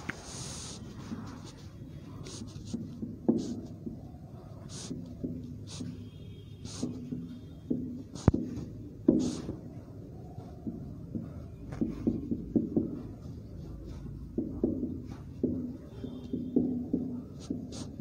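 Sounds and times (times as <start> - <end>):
marker pen writing on whiteboard: 0.0 - 18.0.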